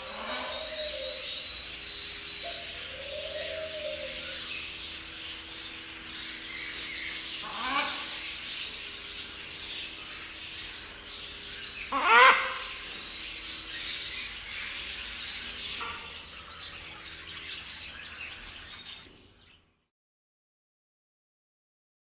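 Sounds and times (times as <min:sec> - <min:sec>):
caged birds chirping: 0:00.0 - 0:19.9.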